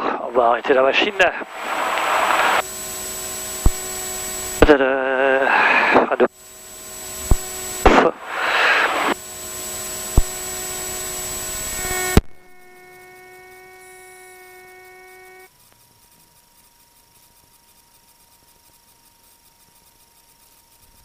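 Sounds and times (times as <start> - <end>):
electrical whine: 0.0 - 21.0
steady electrical hiss: 0.0 - 21.0.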